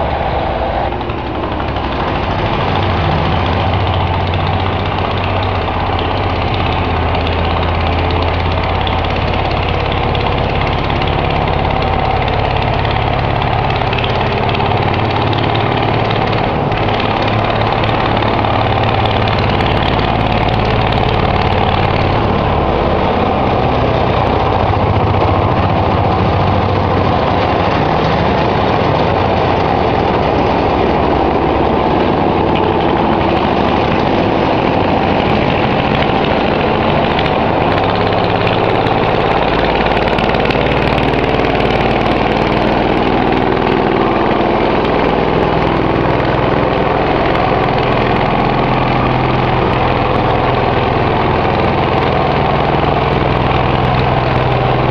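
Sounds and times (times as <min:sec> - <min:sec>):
dumper engine running: 0:00.0 - 0:54.9.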